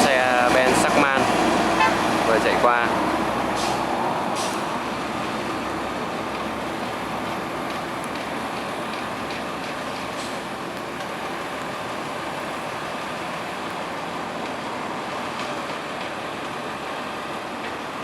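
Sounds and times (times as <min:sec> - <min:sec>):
diesel trucks and traffic rumbling: 0:00.0 - 0:18.0.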